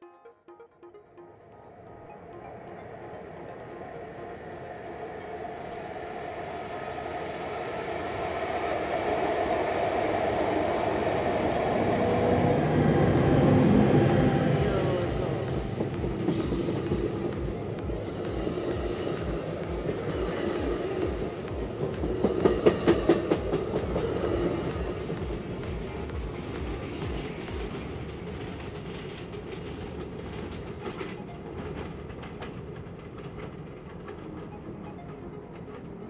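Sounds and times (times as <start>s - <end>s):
diesel train rumbling past: 1.2s - 36.0s.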